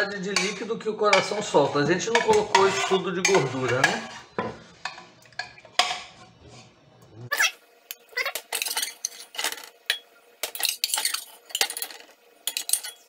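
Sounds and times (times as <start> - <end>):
metal spoon scraping a pot: 0.0 - 6.8, 8.4 - 13.0.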